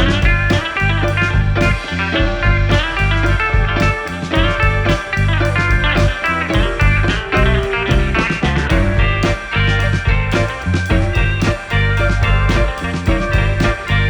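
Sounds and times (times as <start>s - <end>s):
guitar-led instrumental music: 0.0s - 14.0s.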